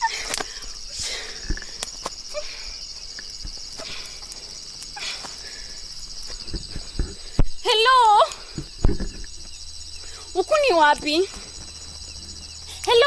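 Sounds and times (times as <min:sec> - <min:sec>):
crickets chirping: 0:00.0 - 0:13.0
rustling through undergrowth: 0:00.0 - 0:13.0.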